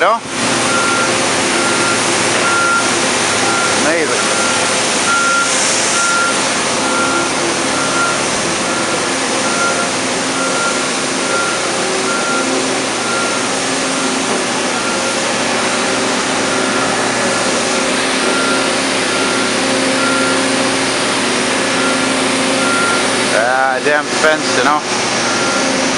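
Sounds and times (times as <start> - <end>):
backup alarm beeping: 0.0 - 23.2, 25.2 - 25.9
diesel engine of heavy machinery: 0.0 - 25.9.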